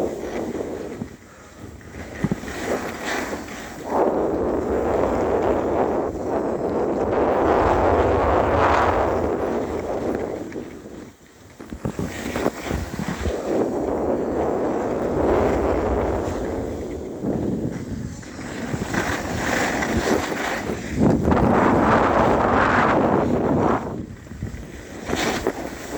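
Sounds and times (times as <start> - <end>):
wind rushing over microphone: 0.0 - 25.9.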